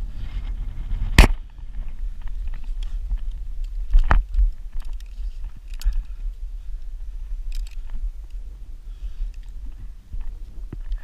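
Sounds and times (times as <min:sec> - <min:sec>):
low rumble on microphone: 0:00.0 - 0:11.0.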